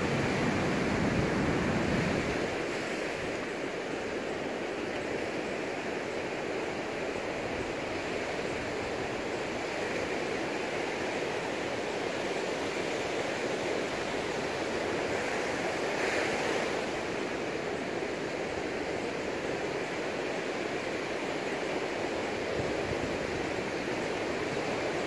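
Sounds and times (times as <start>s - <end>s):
surf washing up beach: 0.0s - 25.0s.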